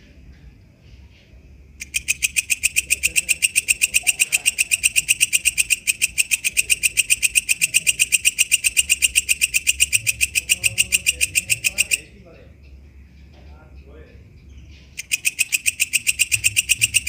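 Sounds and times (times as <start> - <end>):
bush cricket ticking: 1.8 - 17.0.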